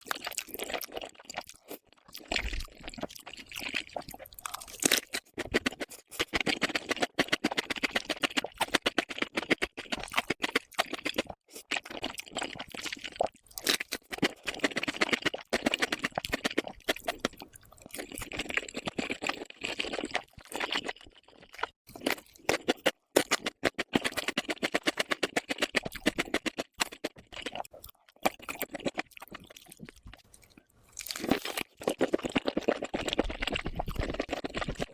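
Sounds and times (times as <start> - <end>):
chewing and crunching food: 0.0 - 34.9.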